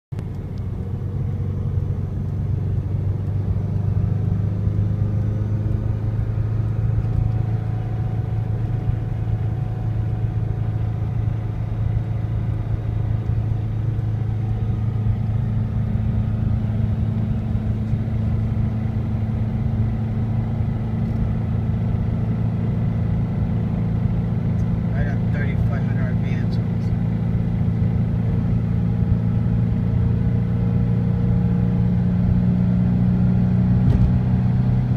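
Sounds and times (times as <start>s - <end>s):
car engine running: 0.1s - 34.9s.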